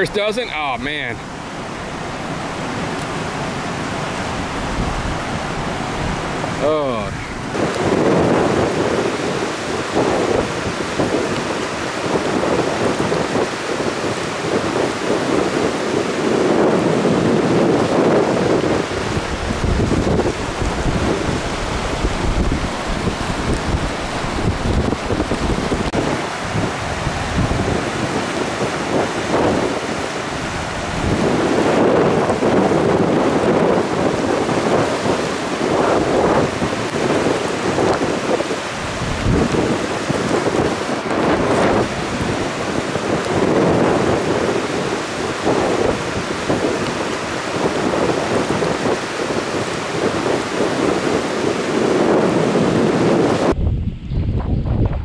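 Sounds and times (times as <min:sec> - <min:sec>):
floodwater rushing: 0:00.0 - 0:53.6
heavy rain: 0:00.0 - 0:53.6
wind buffeting microphone: 0:00.0 - 0:55.0.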